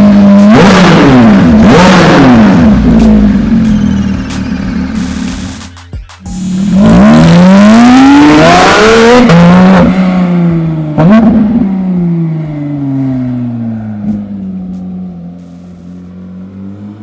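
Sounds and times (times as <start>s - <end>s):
sports car engine accelerating hard: 0.0s - 5.7s, 6.3s - 17.0s.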